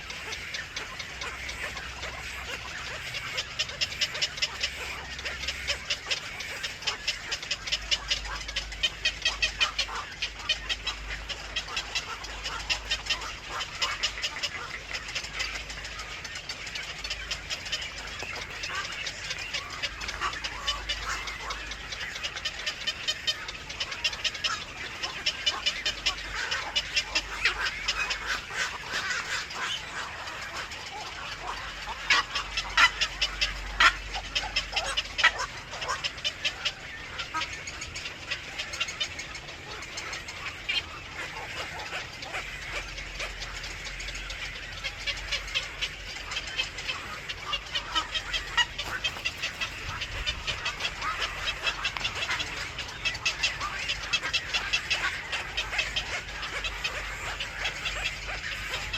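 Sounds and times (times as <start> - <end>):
birds calling sharp notes: 0.0 - 58.9.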